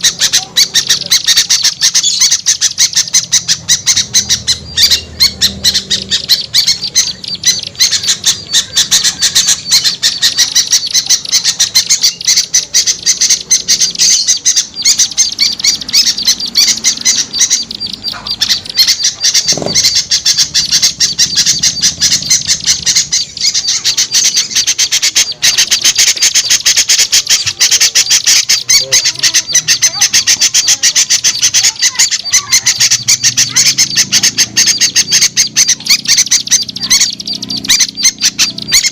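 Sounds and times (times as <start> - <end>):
songbirds alarm calls chattering: 0.0 - 38.9.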